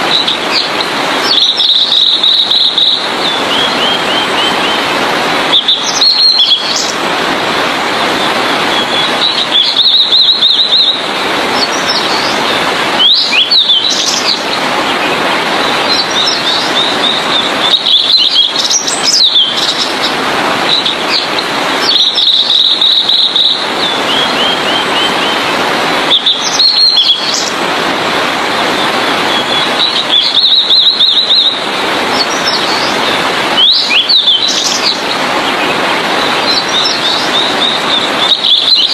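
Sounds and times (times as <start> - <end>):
steady background hiss: 0.0 - 38.9
bird singing trilled phrases: 0.1 - 4.8, 5.5 - 7.0, 8.7 - 14.6, 15.6 - 25.4, 26.1 - 27.5, 29.3 - 31.6, 32.2 - 38.9.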